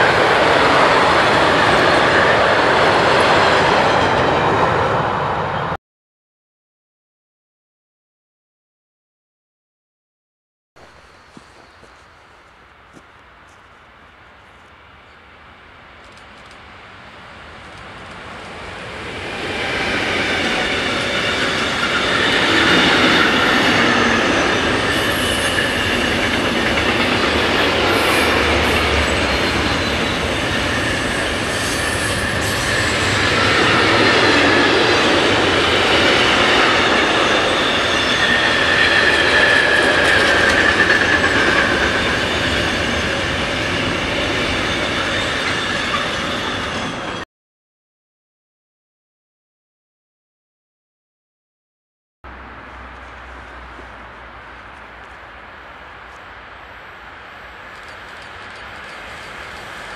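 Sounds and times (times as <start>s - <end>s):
freight train passing: 0.0s - 5.8s, 10.8s - 47.2s, 52.3s - 59.9s.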